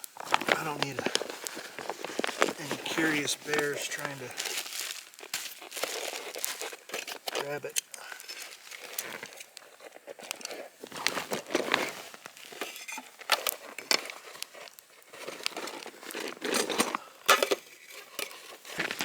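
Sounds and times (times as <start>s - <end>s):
bag crinkling and rustling: 0.0s - 19.0s.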